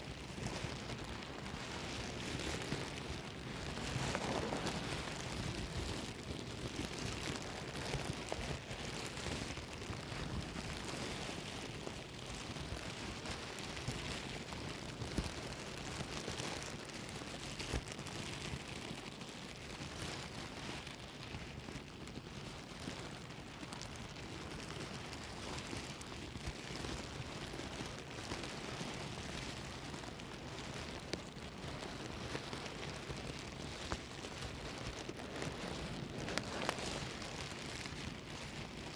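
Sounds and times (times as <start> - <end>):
plastic bag crumpling: 0.0 - 38.9.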